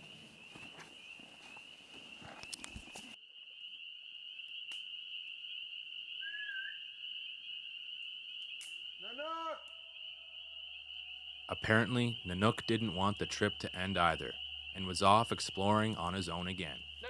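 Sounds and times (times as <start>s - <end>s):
bird chirp: 0.0s - 17.0s.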